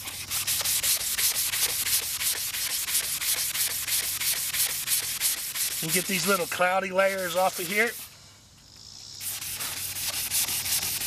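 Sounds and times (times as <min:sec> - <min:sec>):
sanding block rubbing plastic: 0:00.0 - 0:08.1, 0:09.2 - 0:11.0.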